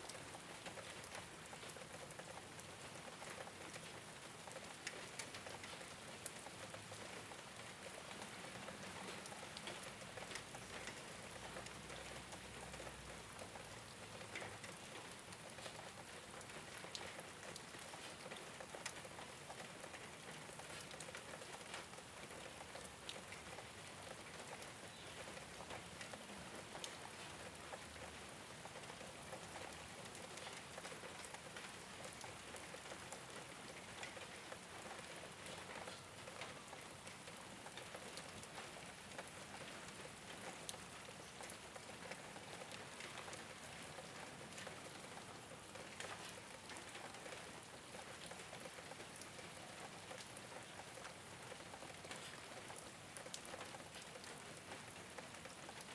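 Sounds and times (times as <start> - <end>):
rain on a rooftop: 0.0 - 55.9.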